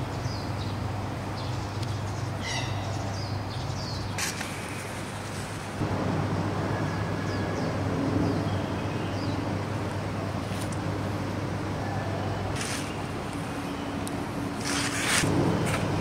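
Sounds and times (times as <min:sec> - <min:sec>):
distant traffic hum: 0:00.0 - 0:16.0.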